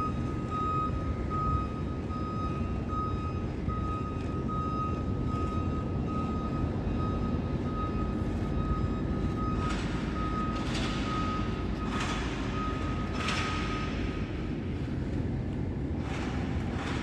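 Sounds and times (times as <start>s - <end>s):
reversing alarm beeping: 0.0s - 14.2s.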